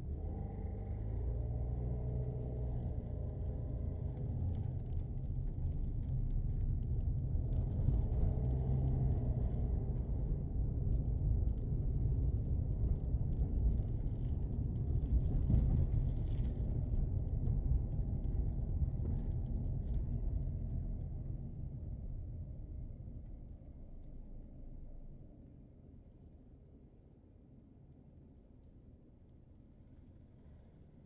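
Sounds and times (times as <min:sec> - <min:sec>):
car interior road rumble: 0:00.0 - 0:25.2.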